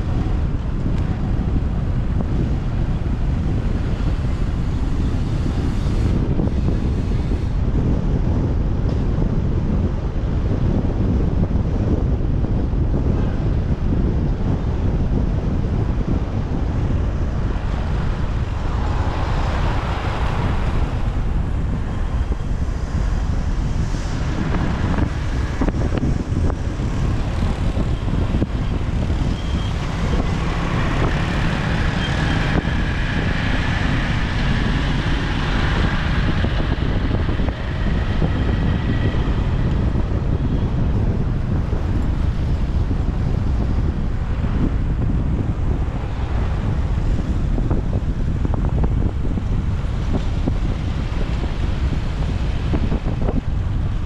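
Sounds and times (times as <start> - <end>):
road traffic noise: 0.0 - 54.0
vehicles passing: 0.0 - 54.0
wind buffeting microphone: 0.0 - 54.0.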